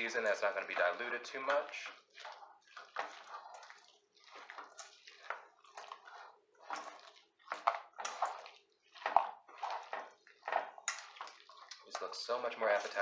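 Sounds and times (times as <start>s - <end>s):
wooden spoon stirring stew: 0.0s - 13.0s.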